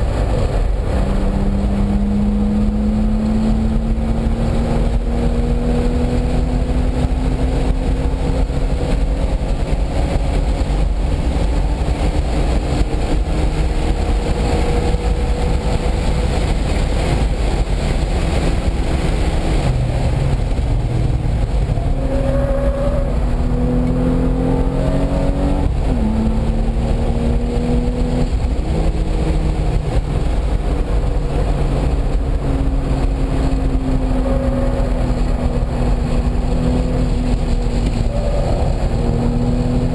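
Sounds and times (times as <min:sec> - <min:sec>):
race car engine running hard: 0:00.0 - 0:39.9
wind and road noise rumble: 0:00.0 - 0:39.9.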